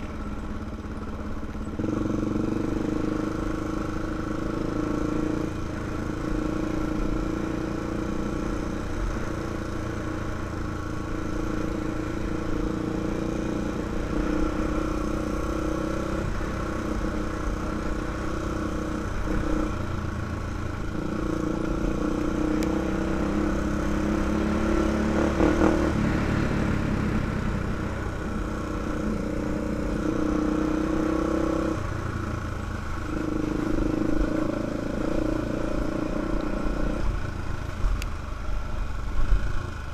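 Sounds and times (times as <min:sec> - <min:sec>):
atv engine revving: 0:00.7 - 0:37.6.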